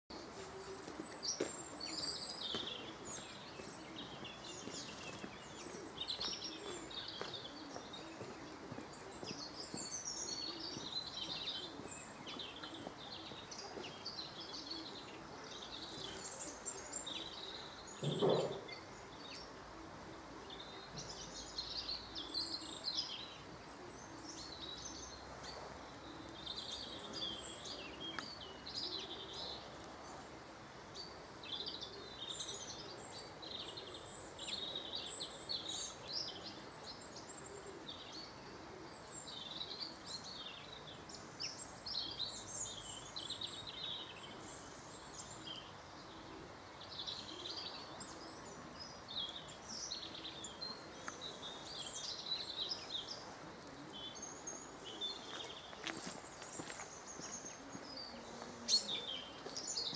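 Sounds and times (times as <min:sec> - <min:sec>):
birds chirping and singing: 0:00.1 - 0:59.9
outdoor background noise: 0:00.1 - 0:59.9.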